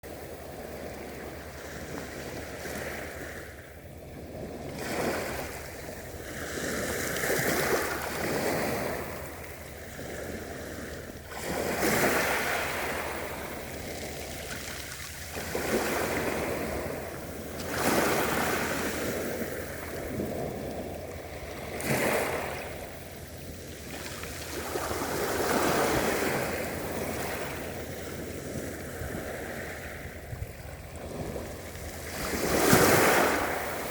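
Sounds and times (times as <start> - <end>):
sea waves breaking on a beach: 0.0 - 33.9.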